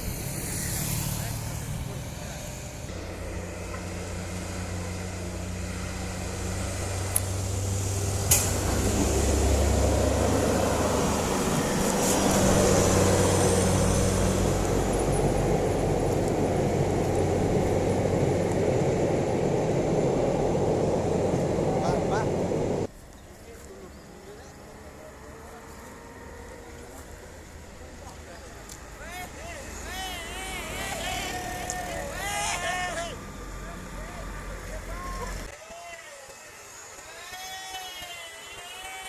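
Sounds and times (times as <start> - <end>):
truck diesel engine labouring: 0.0 - 22.9, 23.6 - 39.0.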